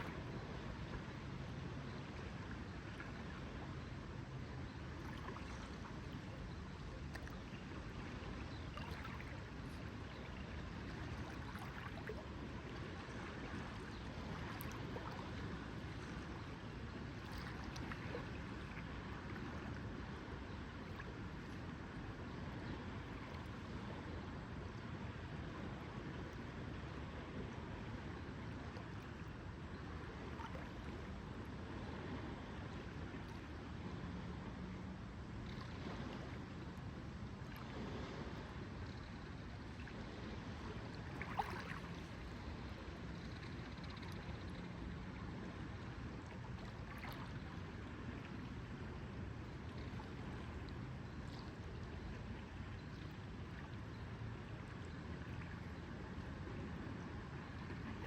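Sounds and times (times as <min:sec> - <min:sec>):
faint low hum: 0:00.0 - 0:58.0
water lapping: 0:00.0 - 0:58.0.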